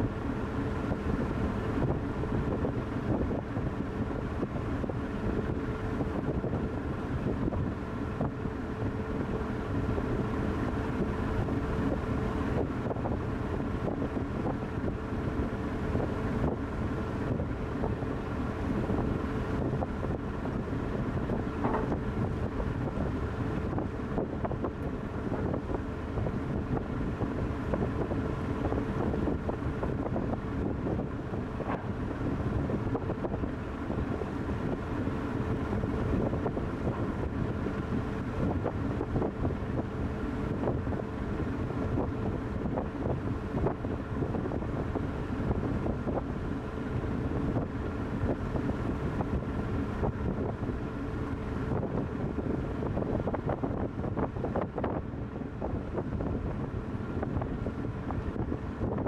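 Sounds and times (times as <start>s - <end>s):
ship engine hum: 0.0s - 59.0s
wind buffeting microphone: 0.0s - 59.0s.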